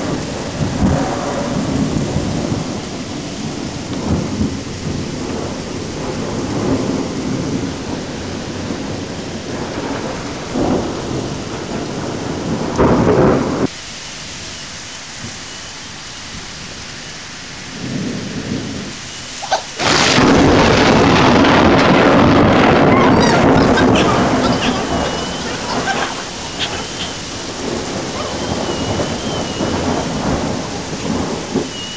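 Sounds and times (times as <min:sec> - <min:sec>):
thunder rumbling: 0:00.0 - 0:13.7, 0:17.7 - 0:31.9
heavy rain: 0:00.0 - 0:31.9.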